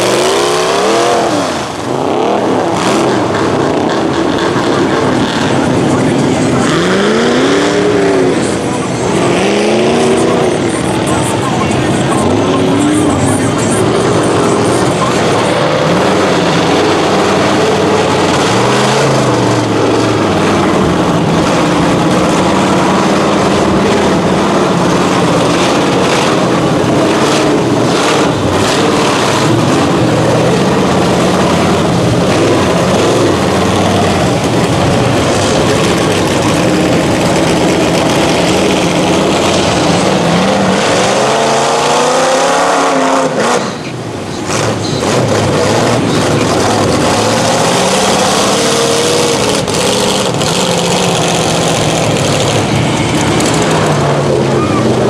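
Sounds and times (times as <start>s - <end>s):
mud truck engines revving: 0.0s - 55.0s.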